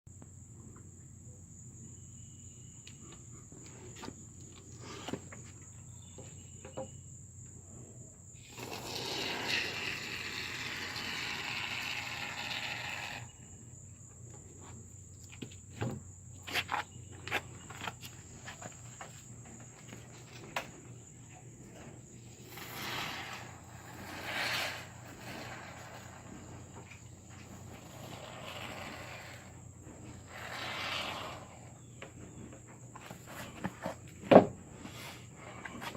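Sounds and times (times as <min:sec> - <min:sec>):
crickets trilling: 0:00.1 - 0:35.9.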